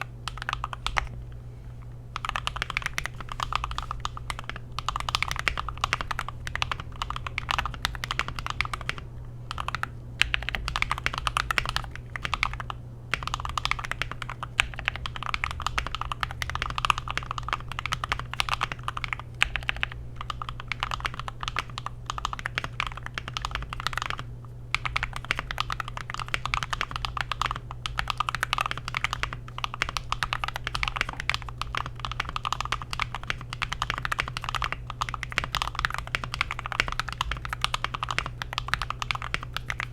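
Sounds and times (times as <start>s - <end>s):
mechanical keyboard typing: 0.0s - 1.2s, 2.2s - 39.9s.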